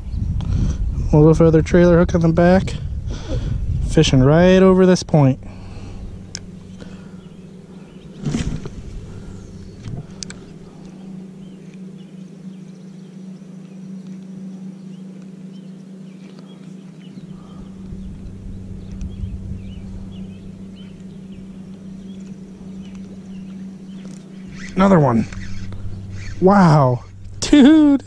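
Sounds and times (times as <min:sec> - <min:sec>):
low motor drone: 0:00.0 - 0:28.0.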